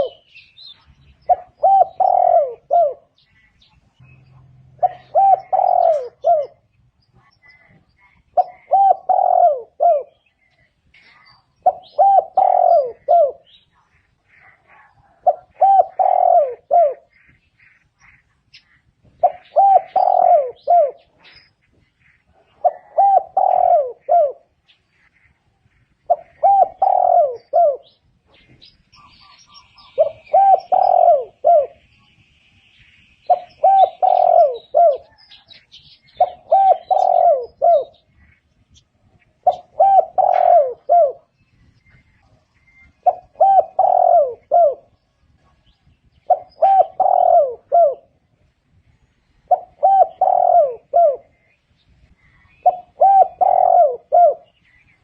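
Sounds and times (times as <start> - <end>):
dove cooing: 0.0 - 3.3, 4.3 - 13.6, 14.2 - 18.2, 19.0 - 21.5, 22.1 - 31.8, 33.3 - 41.4, 42.7 - 48.6, 49.4 - 55.0
small birds chirping: 0.0 - 55.0.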